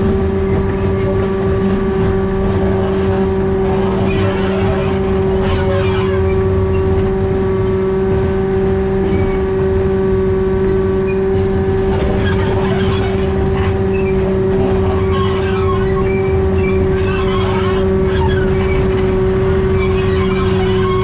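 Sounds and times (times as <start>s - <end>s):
high hum: 0.0s - 21.0s
locomotive diesel engine droning: 0.0s - 21.0s.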